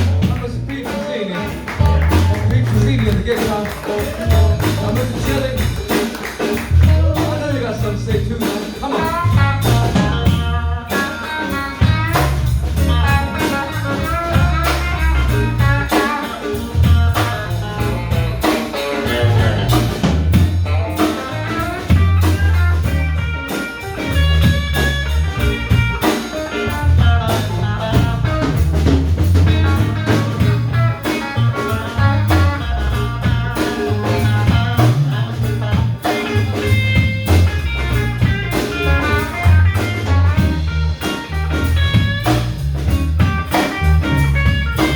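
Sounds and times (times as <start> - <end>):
drum kit: 0.0 - 44.9
electric guitar lines: 0.0 - 44.9
walking bass: 0.0 - 44.9.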